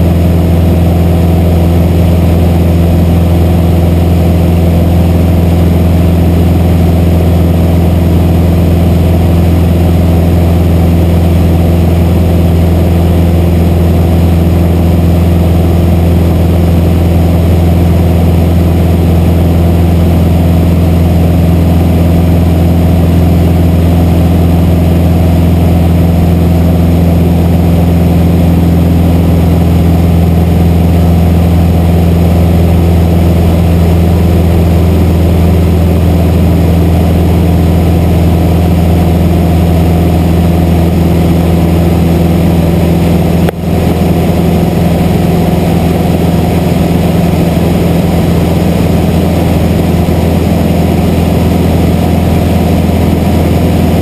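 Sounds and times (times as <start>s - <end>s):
airplane engine drone in cabin: 0.0s - 54.0s.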